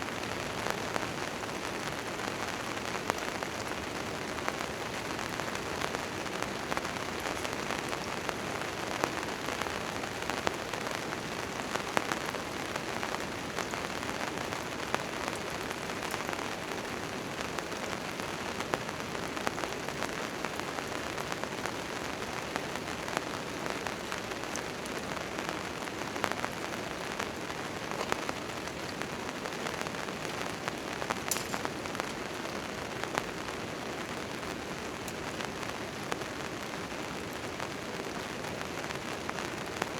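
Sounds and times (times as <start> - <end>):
rain on a tent tarp: 0.0 - 39.9.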